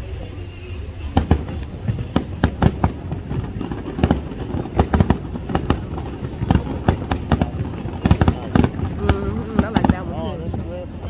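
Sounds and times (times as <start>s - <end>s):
fireworks bangs: 1.0s - 11.0s.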